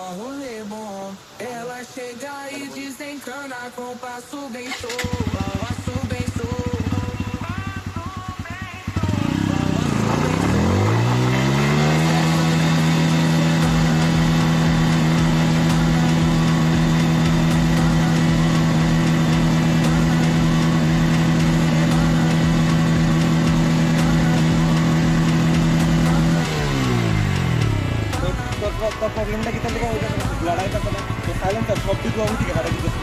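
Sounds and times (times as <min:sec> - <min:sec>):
motorcycle engine at high rev: 0:04.7 - 0:33.0.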